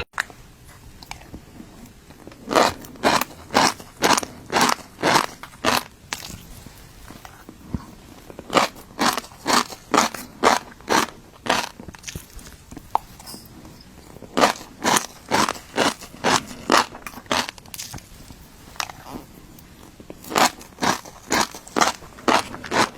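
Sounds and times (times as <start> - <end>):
crunchy chewing of fish roe: 0.2 - 22.9.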